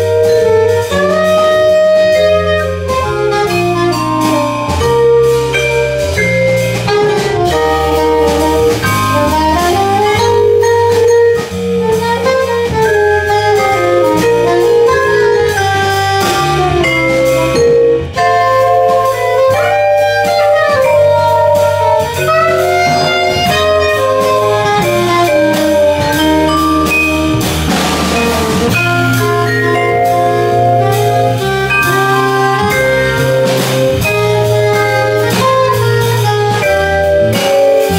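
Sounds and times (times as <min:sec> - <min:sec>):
bass: 0:00.0 - 0:37.9
drums: 0:00.0 - 0:37.9
soprano saxophone melody: 0:00.0 - 0:37.9
vibraphone: 0:00.0 - 0:37.9.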